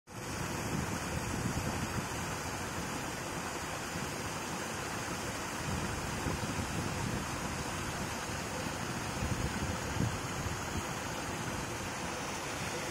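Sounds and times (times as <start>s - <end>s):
paddlewheel aerator splashing water: 0.1s - 12.9s.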